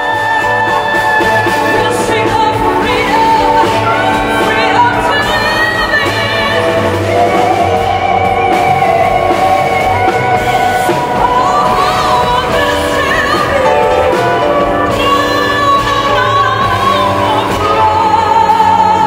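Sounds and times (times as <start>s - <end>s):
soprano saxophone: 0.0s - 19.0s
woman singing: 0.0s - 19.0s.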